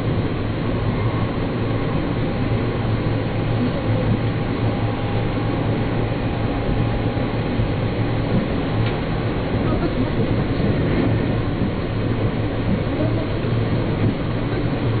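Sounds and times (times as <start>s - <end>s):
faint steady whine: 0.0s - 15.0s
train wheels rumbling: 0.0s - 15.0s.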